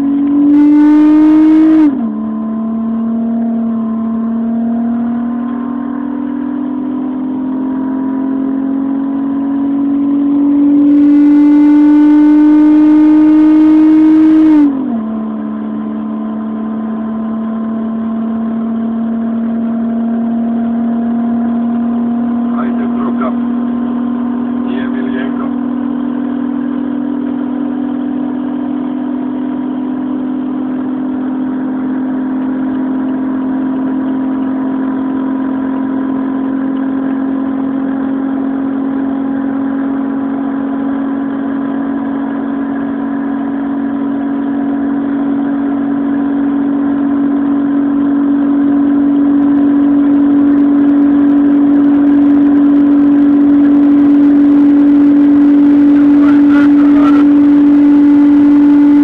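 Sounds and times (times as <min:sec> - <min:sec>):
car engine droning at speed: 0:00.0 - 0:59.0
wind and road noise: 0:00.0 - 0:59.0.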